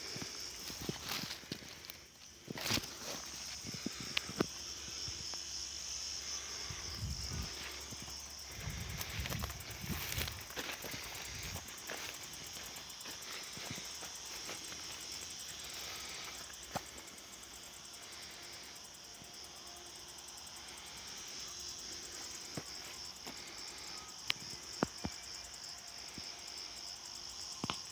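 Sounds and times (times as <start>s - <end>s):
insects chirring: 0.0s - 27.9s.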